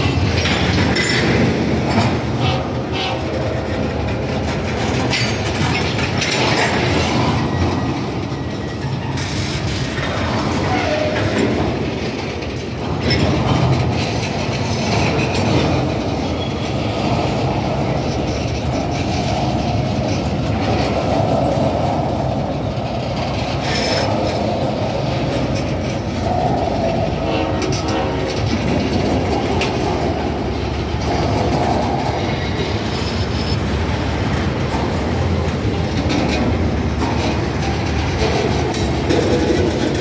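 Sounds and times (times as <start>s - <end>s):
train clanks: 0.0s - 40.0s
train wheels rumbling on rails: 0.0s - 40.0s.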